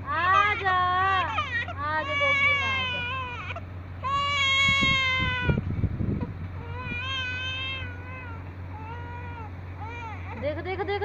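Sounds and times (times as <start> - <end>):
baby crying: 0.2 - 5.6, 6.6 - 10.4.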